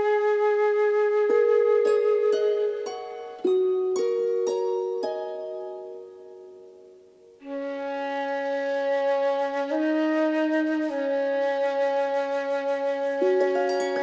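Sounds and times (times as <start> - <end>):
flute-like melody: 0.0 - 6.3, 7.3 - 14.0.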